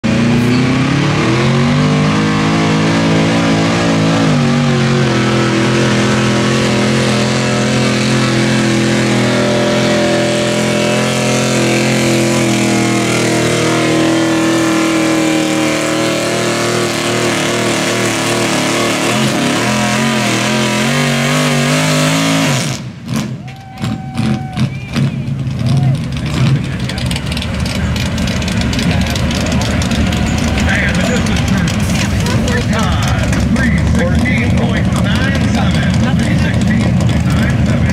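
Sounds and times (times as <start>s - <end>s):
truck engine revving under load: 0.0s - 37.9s.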